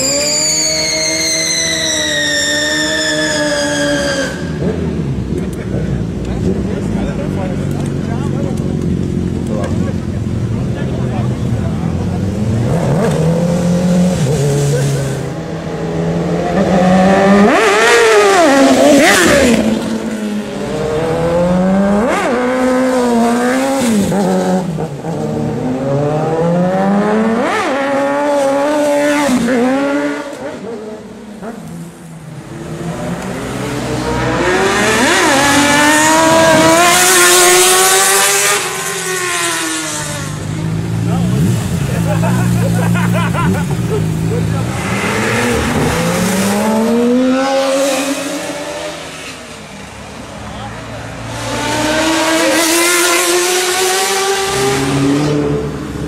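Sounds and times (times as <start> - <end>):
motorcycle engines revving past: 0.0 - 50.0, 50.6 - 56.0.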